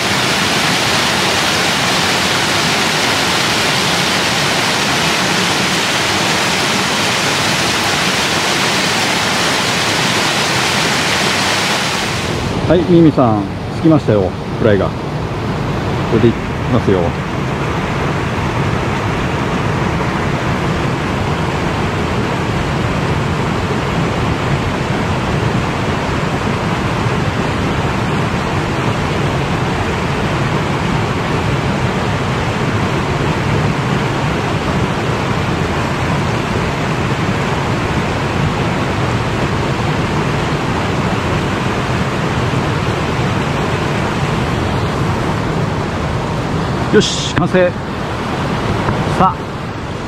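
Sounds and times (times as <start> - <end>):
stream water rushing: 0.0 - 50.0.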